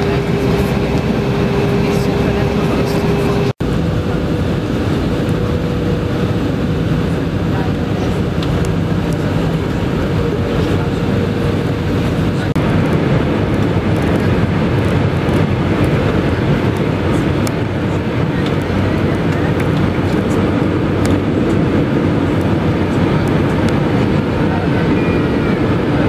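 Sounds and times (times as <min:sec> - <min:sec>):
aircraft cabin engine rumble: 0:00.0 - 0:26.0.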